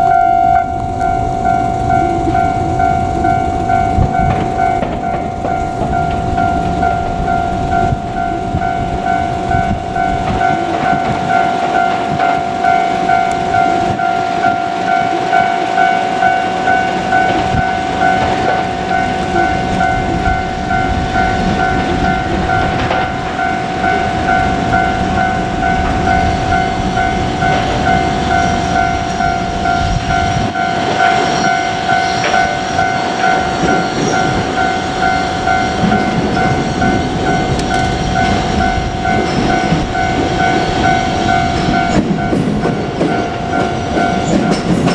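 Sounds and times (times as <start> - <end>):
level-crossing warning bell: 0.0 - 44.9
train rumble and rail clatter: 0.0 - 44.9.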